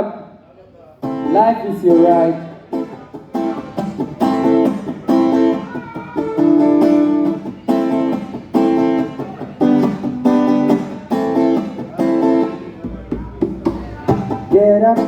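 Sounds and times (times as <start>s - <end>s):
acoustic guitar strumming chords: 1.0s - 15.0s.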